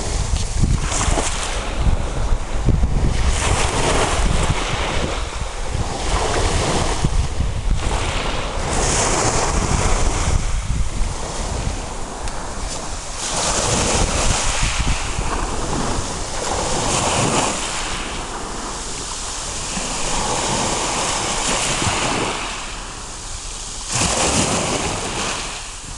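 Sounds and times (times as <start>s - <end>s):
rough sea waves breaking: 0.0s - 25.9s.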